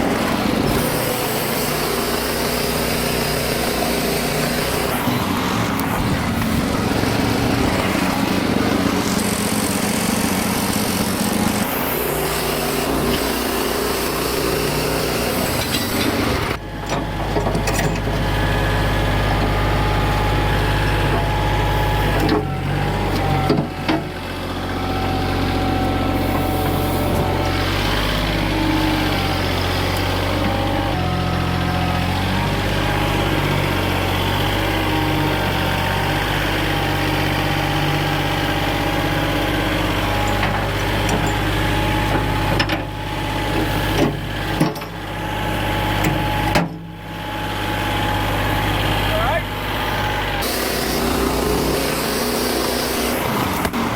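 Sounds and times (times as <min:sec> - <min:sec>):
sawmill engine running: 0:00.0 - 0:53.9.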